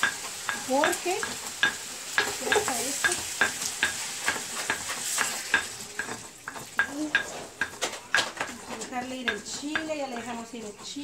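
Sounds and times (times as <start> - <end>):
meat sizzling in a pan: 0.0 - 11.0
spoon knocking against pan: 0.0 - 11.0.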